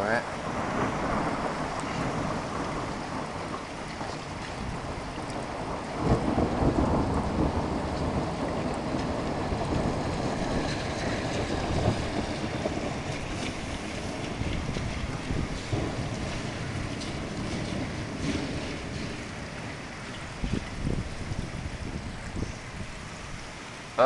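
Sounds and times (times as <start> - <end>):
thunder rumbling: 0.0 - 23.6
steady rain: 0.0 - 24.0.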